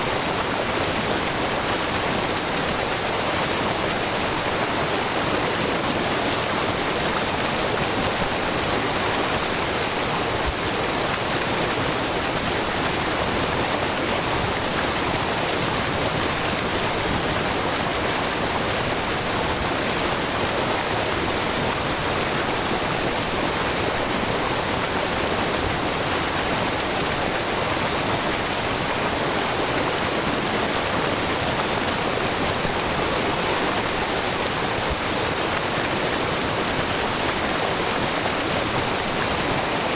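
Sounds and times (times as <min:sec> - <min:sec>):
waterfall splashing over rock: 0:00.0 - 0:39.9.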